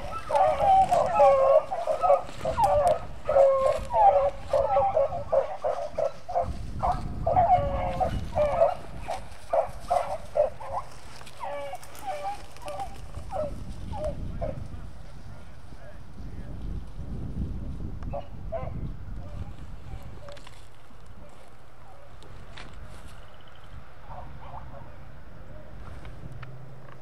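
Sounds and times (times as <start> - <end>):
beagles baying: 0.0 - 15.4, 18.1 - 26.0
wind on microphone: 0.0 - 26.8.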